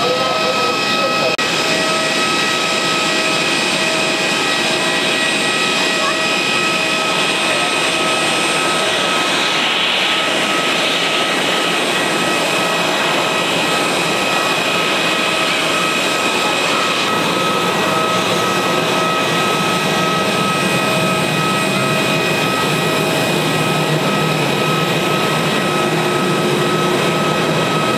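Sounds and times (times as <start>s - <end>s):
jet engine whine: 0.0s - 27.9s.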